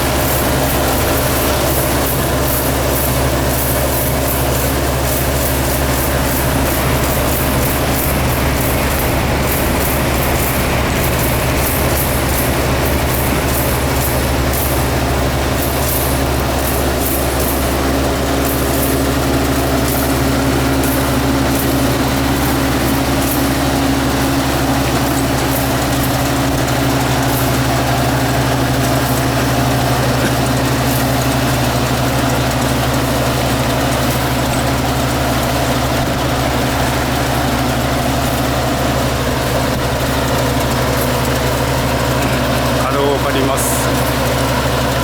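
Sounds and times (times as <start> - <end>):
farm machine engine hum: 0.0 - 45.0.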